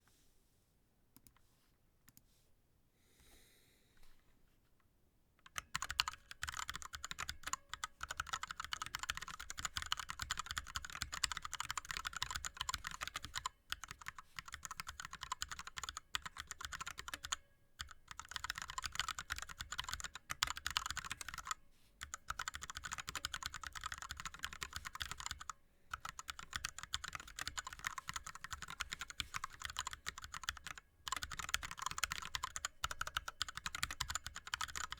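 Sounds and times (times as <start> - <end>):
fast mechanical keyboard typing: 5.5 - 34.9.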